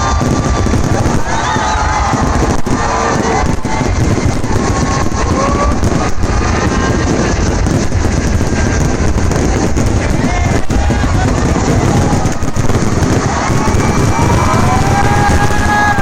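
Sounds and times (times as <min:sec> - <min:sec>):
distant fireworks rumble: 0:00.0 - 0:16.0
fireworks bangs: 0:00.0 - 0:16.0
wind buffeting microphone: 0:00.0 - 0:16.0.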